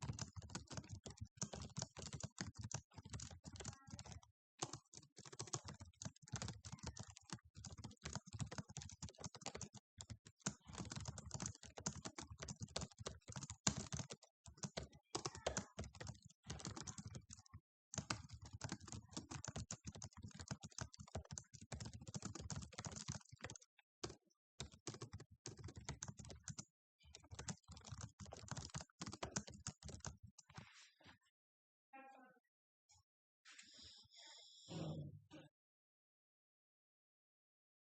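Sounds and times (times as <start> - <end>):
fast typing on keyboard: 0.0 - 30.6.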